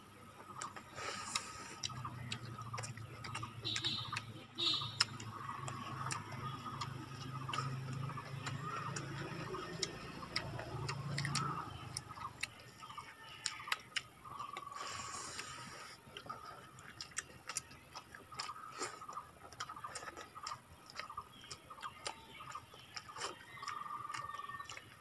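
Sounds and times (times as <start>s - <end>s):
lip smacks and wet chewing: 0.1s - 25.0s.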